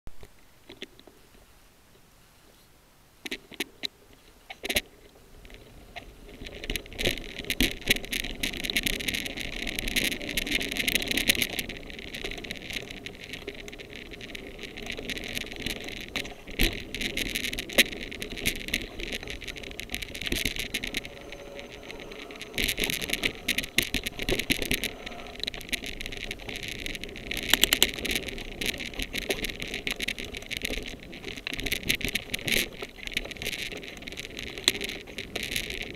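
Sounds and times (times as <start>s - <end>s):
bike tyres crackling over leaves: 5.4s - 35.9s
bike rattling and knocking: 5.6s - 35.9s.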